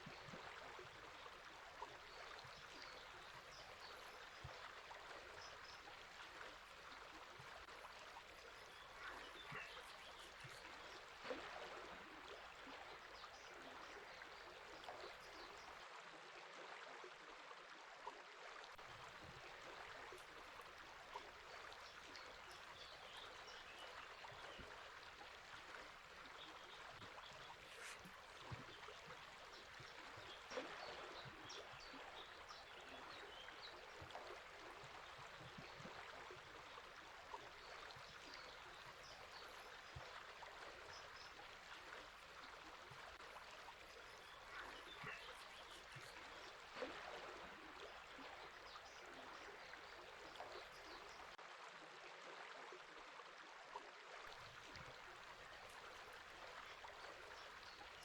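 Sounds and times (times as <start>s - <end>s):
river water babbling: 0.0s - 17.2s, 18.6s - 51.5s, 54.3s - 58.0s.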